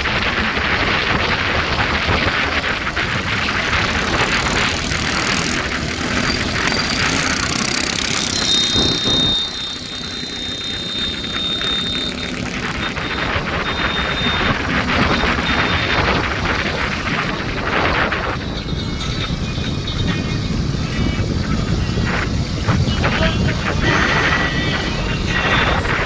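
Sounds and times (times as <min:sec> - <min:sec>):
motorcycles running at speed: 0:00.0 - 0:26.0
wind buffeting microphone: 0:00.0 - 0:26.0
steady high-pitched tone: 0:02.7 - 0:26.0.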